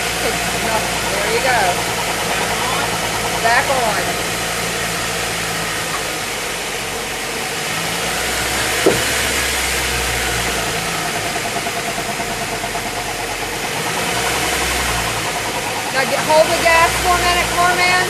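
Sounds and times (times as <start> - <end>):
wheel bearing humming: 0.0 - 18.0.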